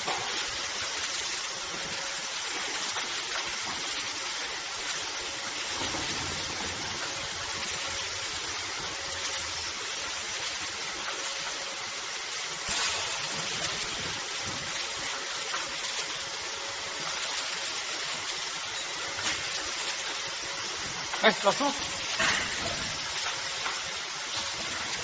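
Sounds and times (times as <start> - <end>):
rinse water spraying: 0.0 - 25.0.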